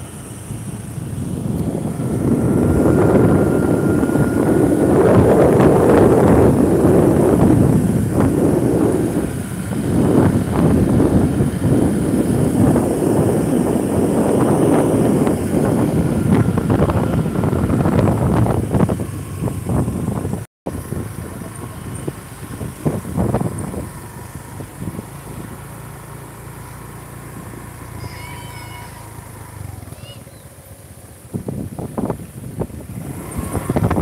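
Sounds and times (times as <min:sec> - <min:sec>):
vehicle road noise: 0:00.0 - 0:34.0
wind buffeting microphone: 0:00.0 - 0:34.0.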